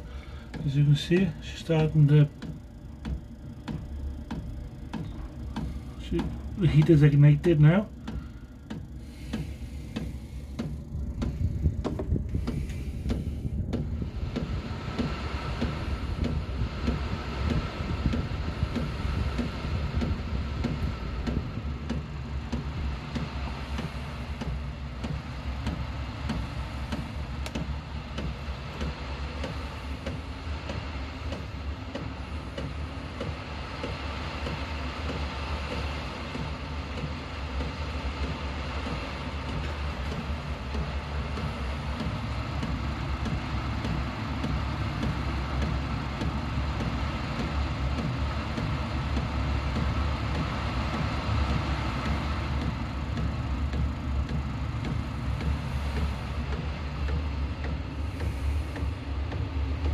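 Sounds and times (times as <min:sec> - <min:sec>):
air heater fan and burner: 0:00.0 - 0:59.9
fuel pump ticking: 0:00.0 - 0:59.9.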